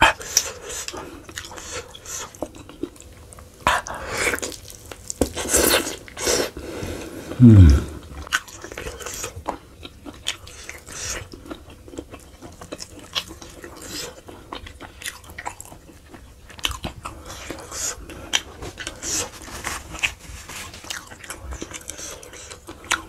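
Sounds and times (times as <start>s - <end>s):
meat being chewed: 0.1s - 6.5s, 8.0s - 23.0s.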